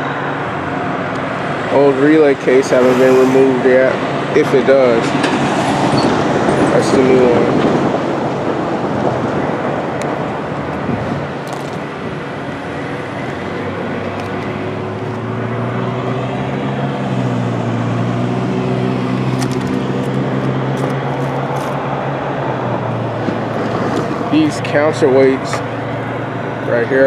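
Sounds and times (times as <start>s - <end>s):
road traffic passing: 0.0s - 27.0s
vehicle engine hum: 0.0s - 27.0s.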